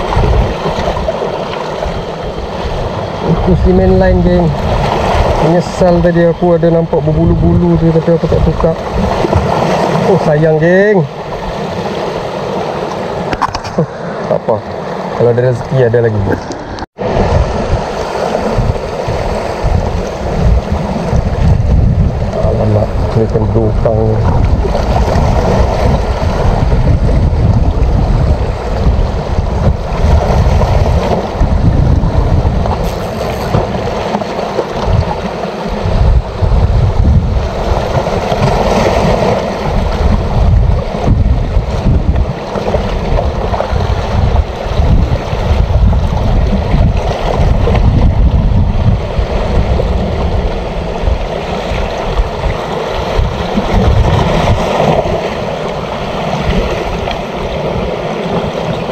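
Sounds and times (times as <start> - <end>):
sea waves washing: 0.0 - 58.9
wind buffeting microphone: 0.0 - 58.9.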